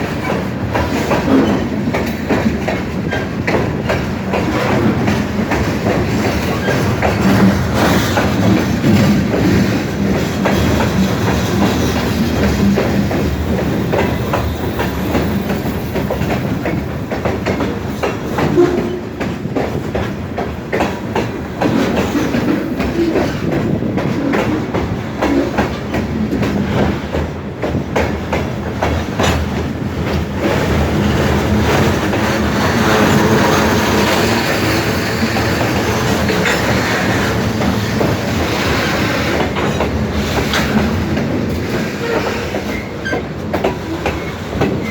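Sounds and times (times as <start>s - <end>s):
train wheels clacking over rail joints: 0.0s - 44.9s.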